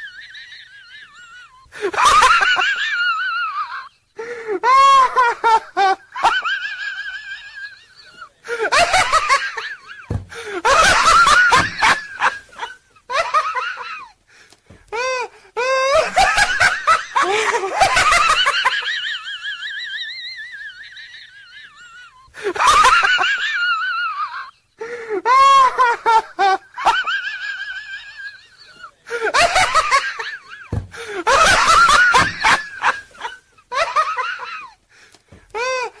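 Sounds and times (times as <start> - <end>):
hearty laughter: 0.0 - 14.2, 14.9 - 36.0.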